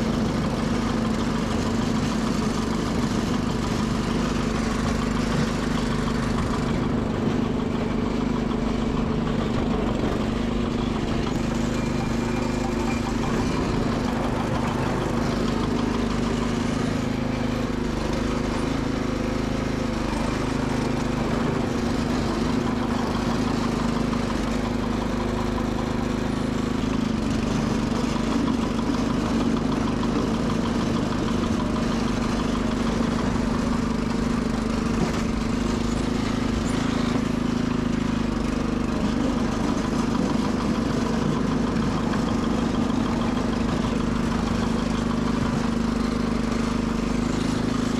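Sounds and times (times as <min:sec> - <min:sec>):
garden tractor engine running: 0:00.0 - 0:47.9.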